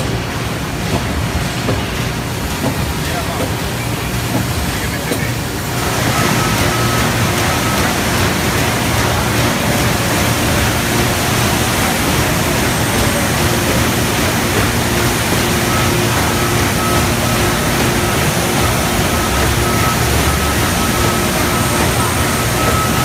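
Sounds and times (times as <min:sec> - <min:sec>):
wrapping machine running: 0:00.0 - 0:23.0.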